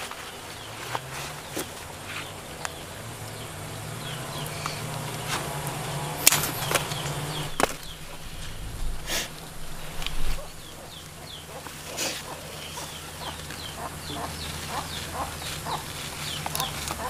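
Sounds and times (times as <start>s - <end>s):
chickens clucking: 0.0s - 17.0s
chicks peeping: 0.0s - 17.0s.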